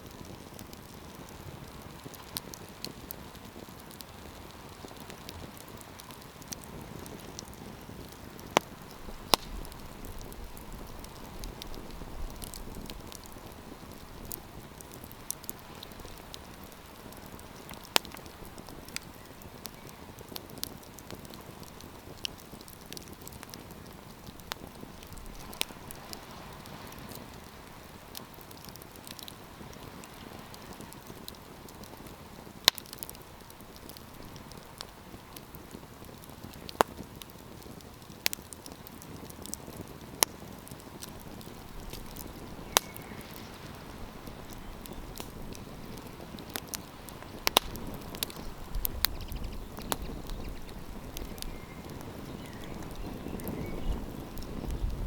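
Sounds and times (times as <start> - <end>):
campfire flame rushing: 0.0 - 55.0
fire crackling and popping: 0.0 - 55.0.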